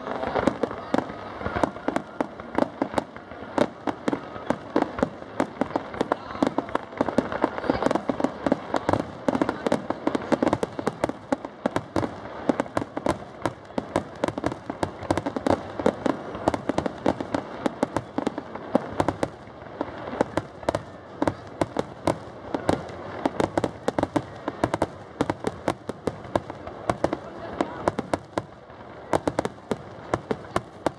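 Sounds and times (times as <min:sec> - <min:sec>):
fireworks bursting: 0:00.0 - 0:30.9.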